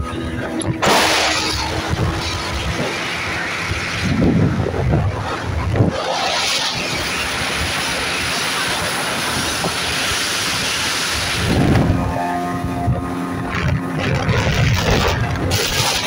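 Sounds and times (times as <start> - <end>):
outboard motor running: 0.0 - 16.0
water rushing past hull: 0.0 - 16.0
wind buffeting microphone: 0.0 - 16.0.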